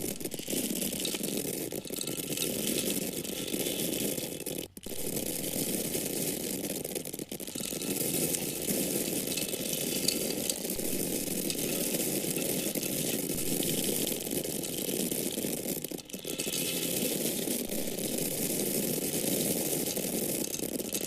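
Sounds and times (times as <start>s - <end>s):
corn kernels pouring: 0.0s - 21.0s.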